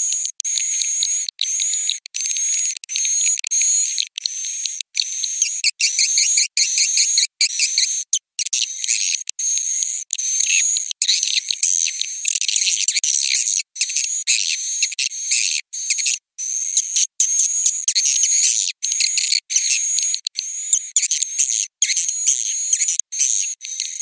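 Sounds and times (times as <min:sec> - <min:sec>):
swiftlets twittering and chirping: 0:00.2 - 0:24.0.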